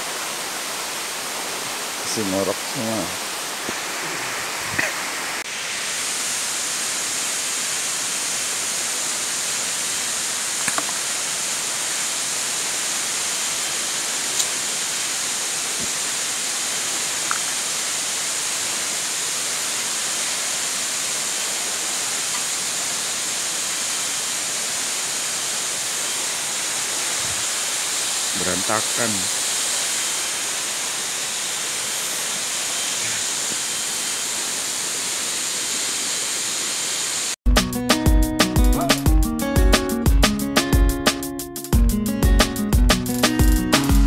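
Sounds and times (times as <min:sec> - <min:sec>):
waterfall rushing: 0:00.0 - 0:37.4.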